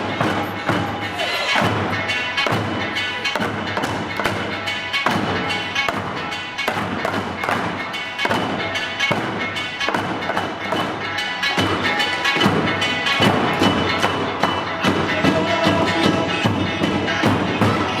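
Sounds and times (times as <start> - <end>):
backing music: 0.0 - 18.0
taiko drums beating: 0.0 - 18.0.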